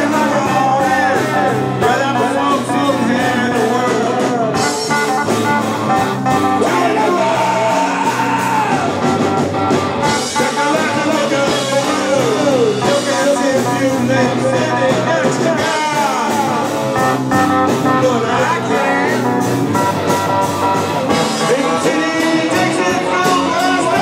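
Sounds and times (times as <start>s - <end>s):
person singing into microphone: 0.0s - 9.4s, 10.0s - 19.6s, 21.1s - 24.0s
bass guitar: 0.0s - 24.0s
electric guitar: 0.0s - 24.0s.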